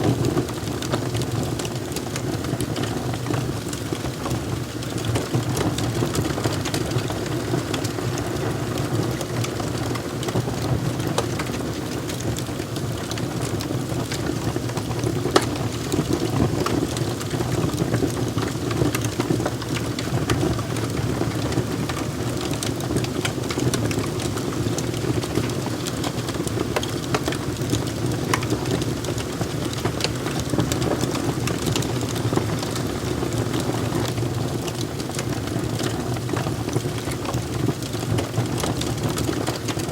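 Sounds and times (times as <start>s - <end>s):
fire popping and snapping: 0.0s - 39.9s
wood fire crackling: 0.0s - 39.9s.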